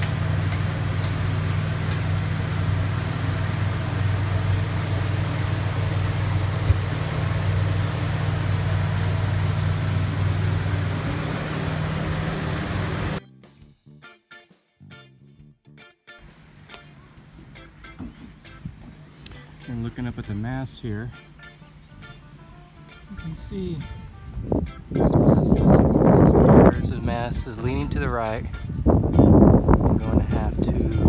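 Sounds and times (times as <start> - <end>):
low mechanical hum: 0.0 - 13.2, 16.2 - 31.0.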